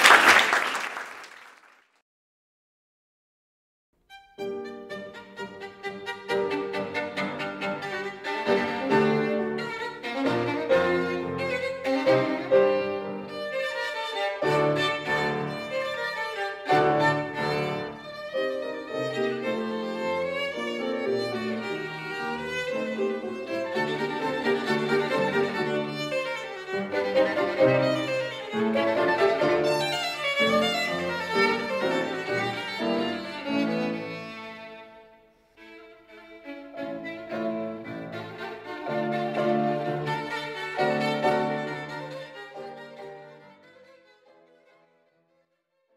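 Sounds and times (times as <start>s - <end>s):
piano accompaniment: 4.1s - 35.0s, 35.6s - 44.1s
violin playing: 4.1s - 45.5s.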